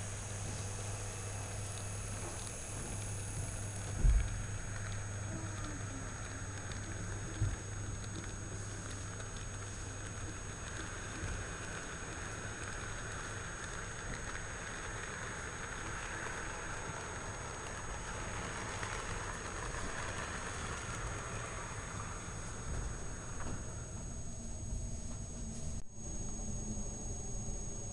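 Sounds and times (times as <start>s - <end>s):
model train wheels clattering: 0.0s - 23.7s.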